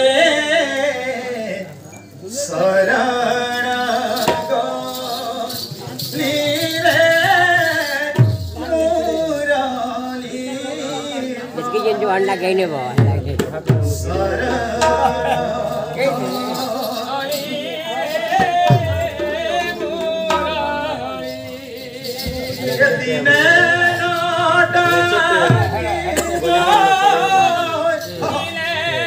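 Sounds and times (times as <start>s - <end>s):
man singing: 0.0s - 29.0s.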